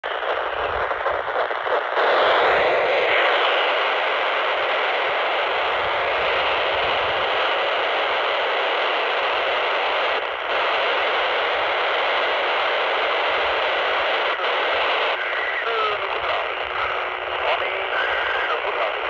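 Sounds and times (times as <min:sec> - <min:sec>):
radio receiver hiss: 0:00.0 - 0:19.0.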